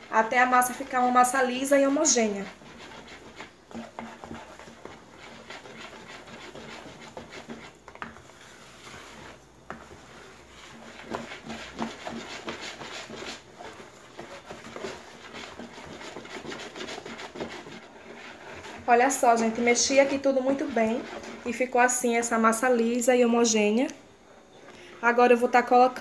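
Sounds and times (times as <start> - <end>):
whisk beating batter in bowl: 0.0 - 22.3.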